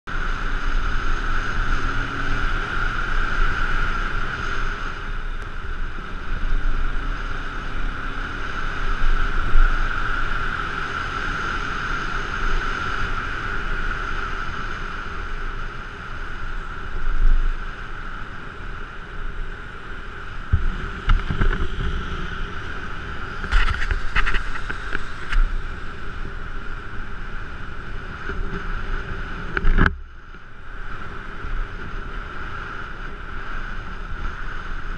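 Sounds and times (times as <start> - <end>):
steady high whine: 0.1 - 34.9
wind on microphone: 0.1 - 34.9.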